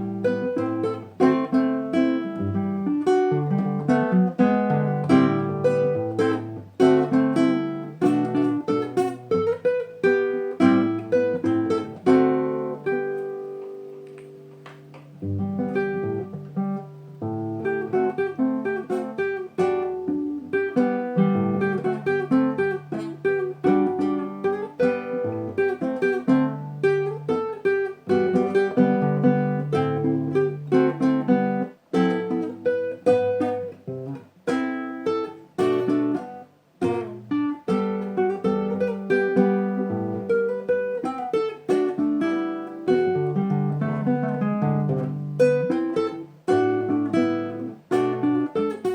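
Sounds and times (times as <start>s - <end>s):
acoustic guitar playing: 0.0s - 48.9s.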